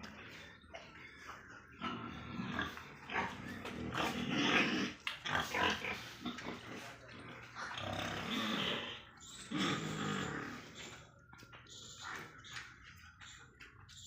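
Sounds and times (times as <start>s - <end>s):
pigs grunting: 0.0s - 14.0s.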